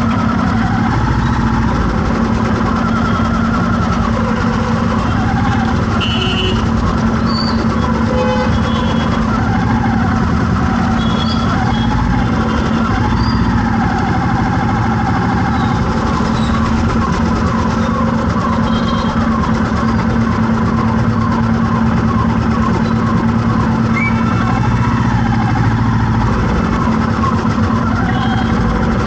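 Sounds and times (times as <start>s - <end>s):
engine running steadily: 0.0s - 29.0s
road traffic: 0.0s - 29.0s.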